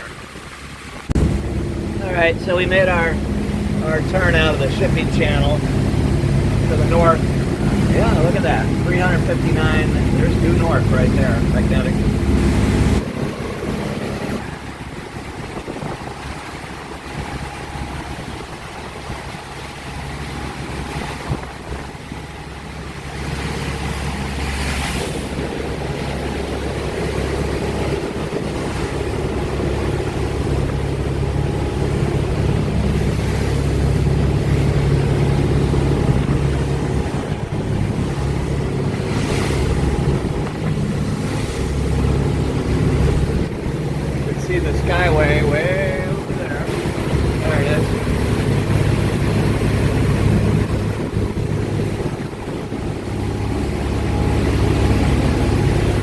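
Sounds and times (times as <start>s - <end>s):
motorboat engine running: 0.0s - 56.0s
wind and water rushing: 0.0s - 56.0s.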